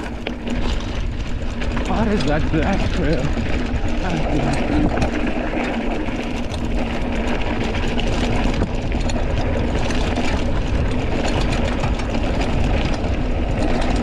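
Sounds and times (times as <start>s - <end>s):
bike rattling clicks: 0.0s - 14.0s
bike tyres on trail: 0.0s - 14.0s
wind rumbling on microphone: 0.0s - 14.0s.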